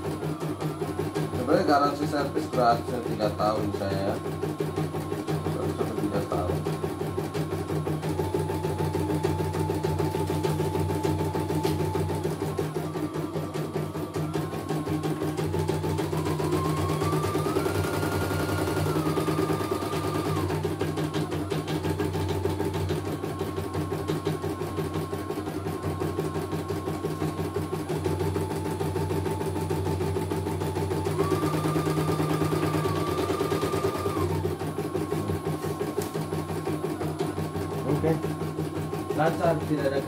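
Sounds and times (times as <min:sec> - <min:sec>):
motor whine: 0:00.0 - 0:40.0.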